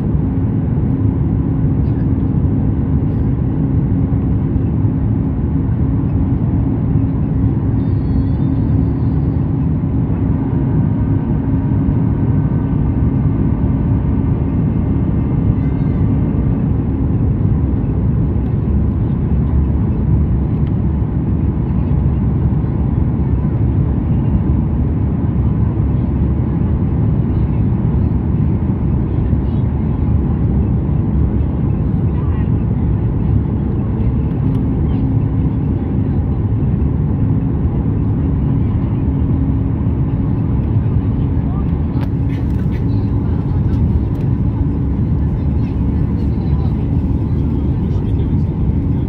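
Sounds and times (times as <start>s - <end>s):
airplane cabin engine rumble: 0.0s - 49.0s.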